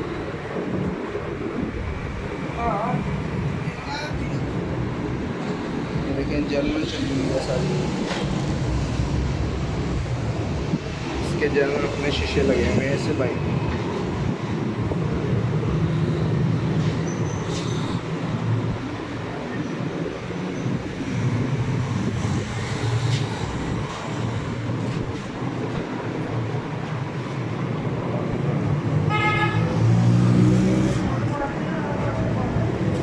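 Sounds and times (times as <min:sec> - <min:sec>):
engines rumbling: 0:00.0 - 0:33.0.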